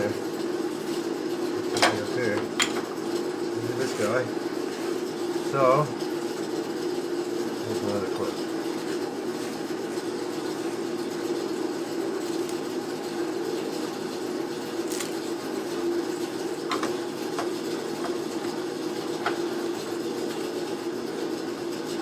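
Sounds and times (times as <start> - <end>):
steady mechanical drone: 0.0 - 21.6.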